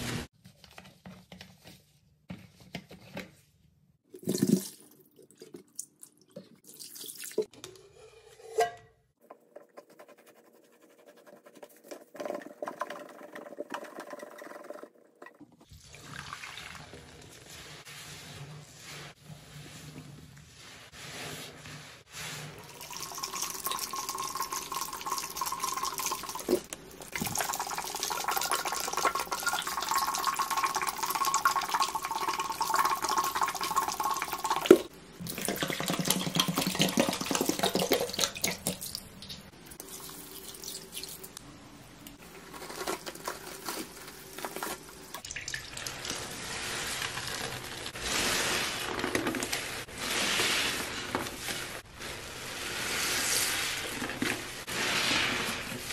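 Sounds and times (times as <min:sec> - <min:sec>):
wet sponges squelching: 0:09.4 - 0:41.4, 0:42.0 - 0:55.9
soapy water sloshing: 0:09.8 - 0:41.4, 0:42.2 - 0:55.9.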